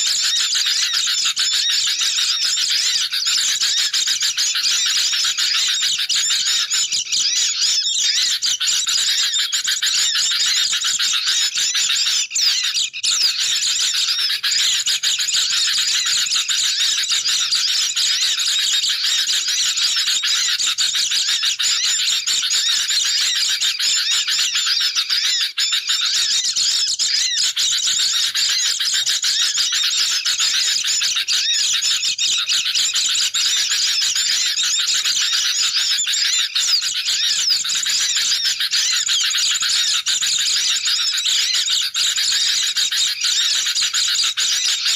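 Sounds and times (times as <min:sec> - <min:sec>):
flock of birds chattering: 0:00.0 - 0:44.9.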